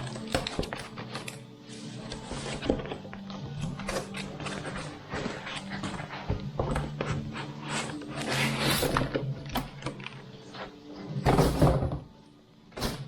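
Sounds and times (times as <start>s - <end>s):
background music with low tones: 0.0s - 13.0s.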